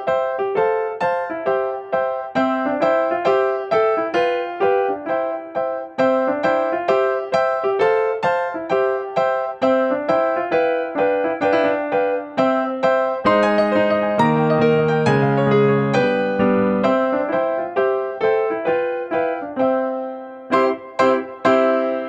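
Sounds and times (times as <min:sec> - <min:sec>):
bright instrumental melody: 0:00.0 - 0:22.0.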